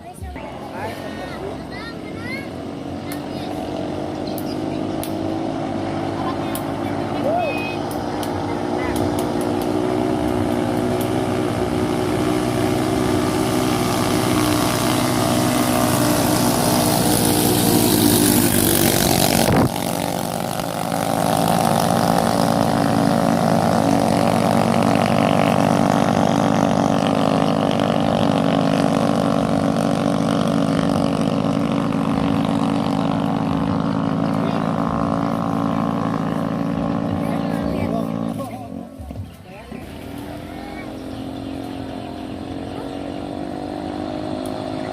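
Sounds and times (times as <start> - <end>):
racing boat engines running loud: 0.0 - 44.9.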